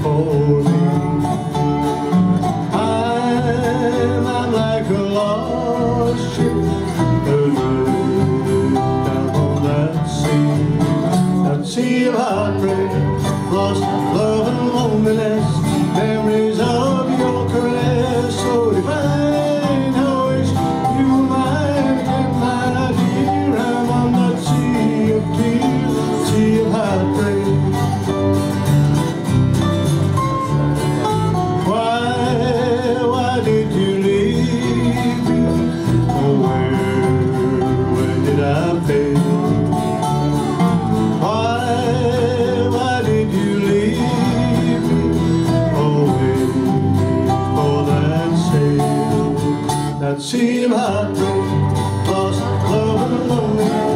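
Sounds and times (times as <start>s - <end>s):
live country band playing: 0.0s - 53.9s.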